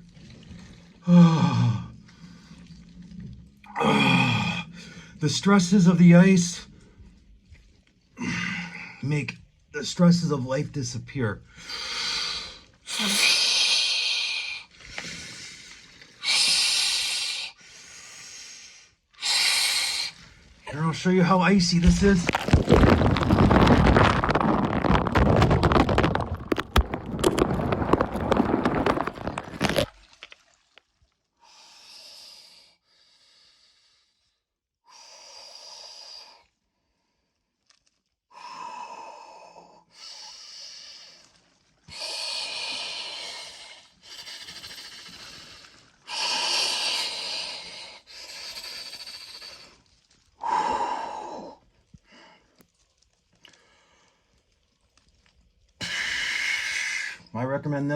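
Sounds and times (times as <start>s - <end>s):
ice and water churning: 0.0s - 31.4s, 40.2s - 57.3s.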